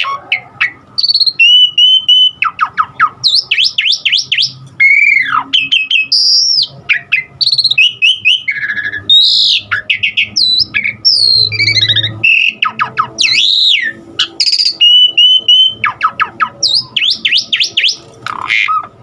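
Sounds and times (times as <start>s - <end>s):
starling singing varied song: 0.0s - 18.9s
bird chattering and squawks: 0.0s - 19.0s.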